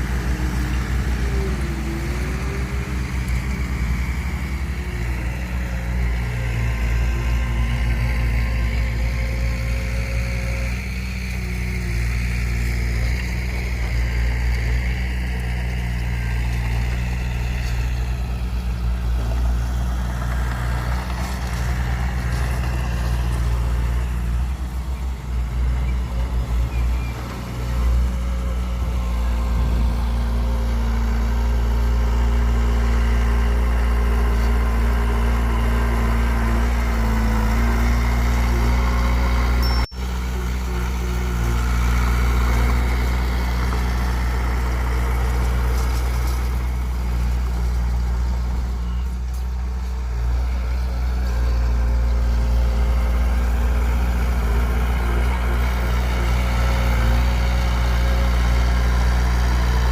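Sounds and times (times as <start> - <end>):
heavy machinery diesel engine running: 0.0 - 59.9.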